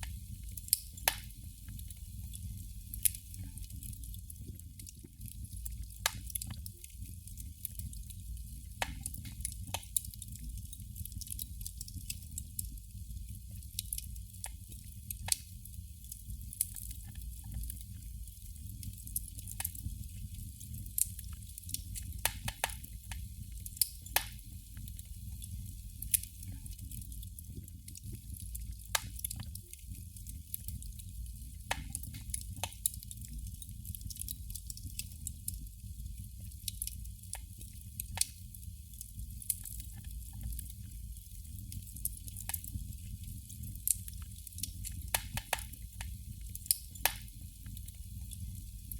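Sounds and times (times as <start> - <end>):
candle flame crackling: 0.0 - 48.9.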